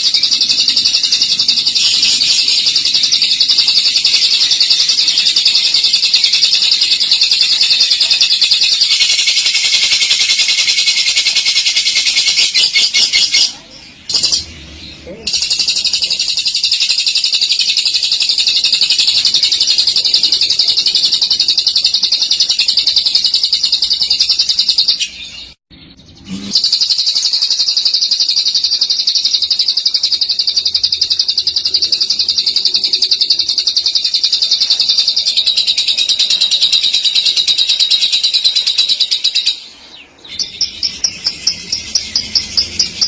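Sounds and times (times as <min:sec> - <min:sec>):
lovebird rattling chatter: 0:00.0 - 0:13.5, 0:15.3 - 0:25.0, 0:26.6 - 0:39.6.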